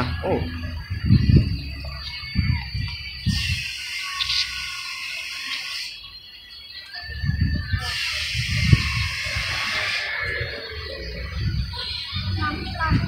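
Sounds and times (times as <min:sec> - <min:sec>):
wind rumbling on microphone: 0:00.0 - 0:04.6, 0:07.0 - 0:13.0
birds chirping: 0:00.0 - 0:13.0.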